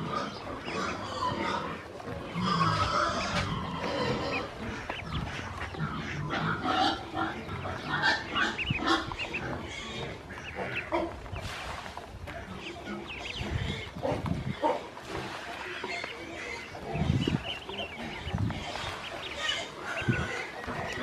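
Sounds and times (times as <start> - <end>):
ducklings peeping: 0.0 - 21.0.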